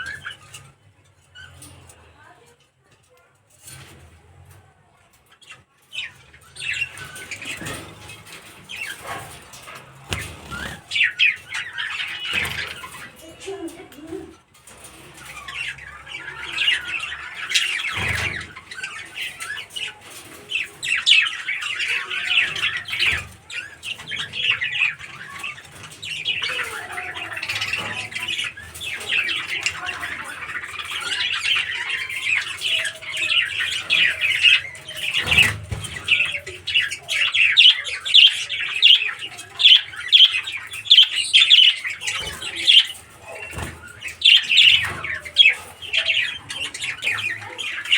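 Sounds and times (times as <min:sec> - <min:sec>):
small birds chattering: 0:00.0 - 0:47.9.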